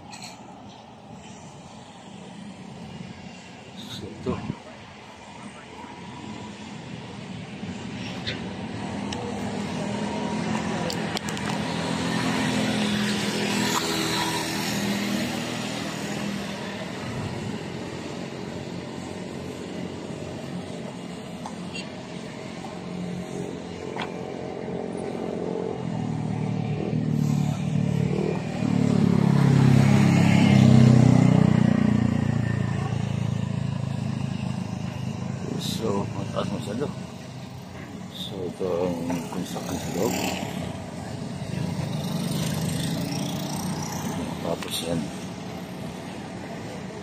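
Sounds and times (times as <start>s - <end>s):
vehicle engines passing: 0.0s - 47.0s.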